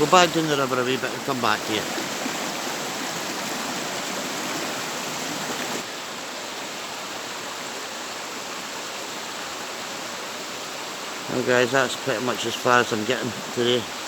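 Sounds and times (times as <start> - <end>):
waterfall and river rushing: 0.0 - 14.0.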